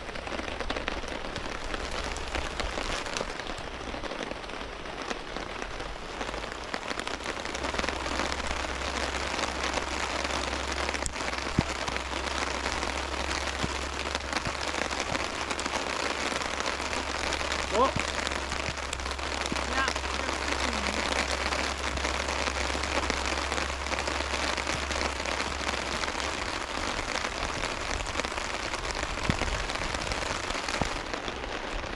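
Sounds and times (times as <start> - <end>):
heavy rain falling: 0.0 - 31.9
single louder raindrops: 0.0 - 31.9.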